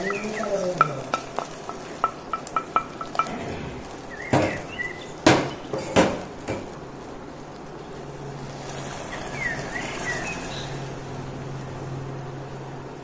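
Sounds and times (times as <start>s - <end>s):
caramel bubbling and spitting: 0.0s - 12.2s.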